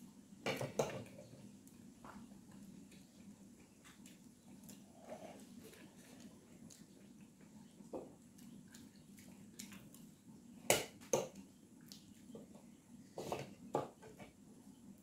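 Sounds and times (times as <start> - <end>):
faint eating sounds: 0.0 - 15.0.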